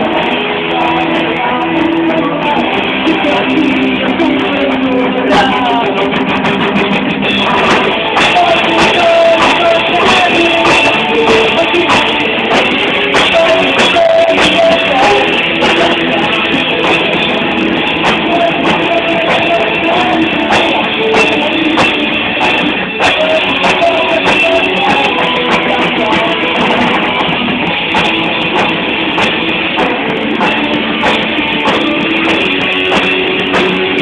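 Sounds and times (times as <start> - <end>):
live rock band playing: 0.0 - 34.0
sustained guitar lead line: 0.0 - 34.0.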